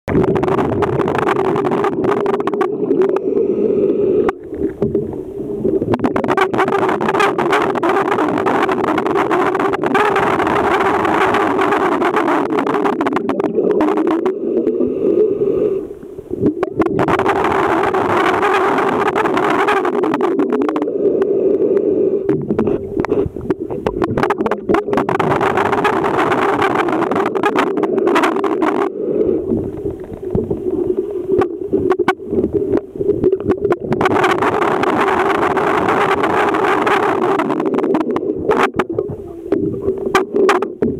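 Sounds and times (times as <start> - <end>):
low underwater hum: 0.1 - 40.9
underwater rushing noise: 0.1 - 40.9.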